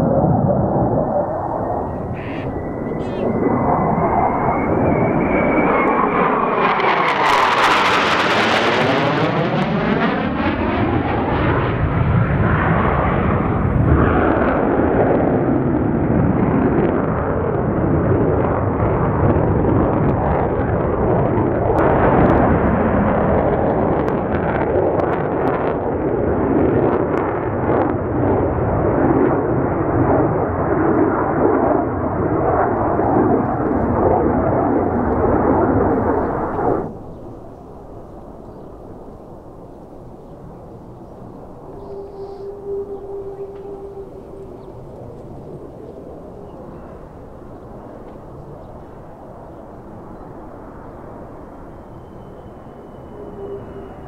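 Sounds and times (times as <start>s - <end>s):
jet roar: 0.0s - 54.0s
jet whine: 0.0s - 54.0s.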